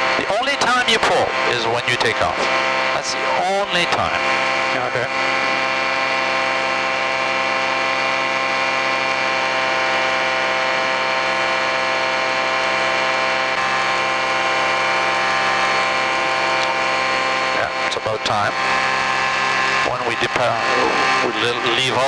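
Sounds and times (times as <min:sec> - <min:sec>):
aircraft engine and propeller drone: 0:00.0 - 0:22.0.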